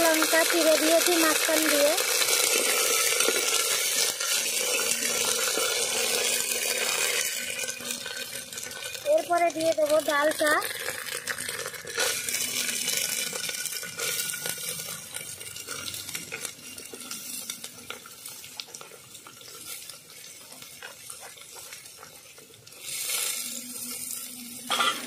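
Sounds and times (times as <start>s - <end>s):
lentils sizzling in hot oil: 0.0s - 25.0s.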